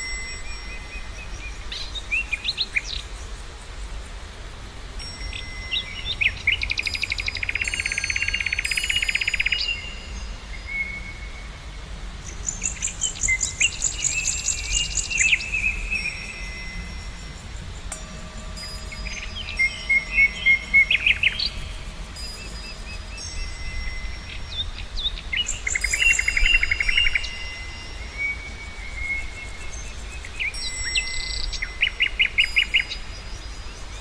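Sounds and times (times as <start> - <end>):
songbirds singing and trilling: 0.0 - 34.0.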